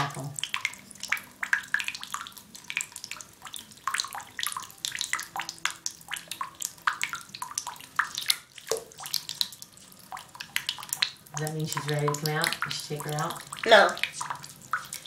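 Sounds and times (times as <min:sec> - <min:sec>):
tap dripping into bath water: 0:00.0 - 0:15.0.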